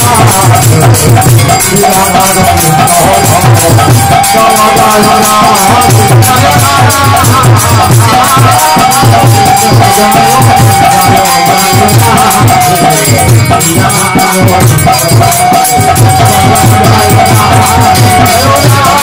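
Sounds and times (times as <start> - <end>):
drum beating steady rhythm: 0.0 - 19.0
hand cymbals clashing: 0.0 - 19.0.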